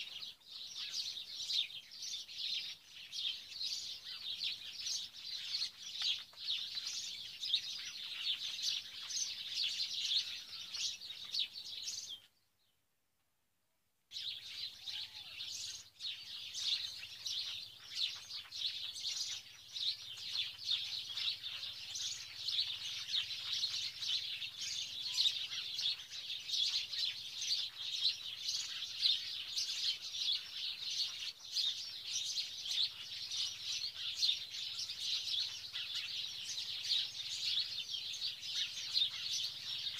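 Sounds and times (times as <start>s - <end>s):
small birds chirping: 0.0s - 12.8s, 14.1s - 39.9s.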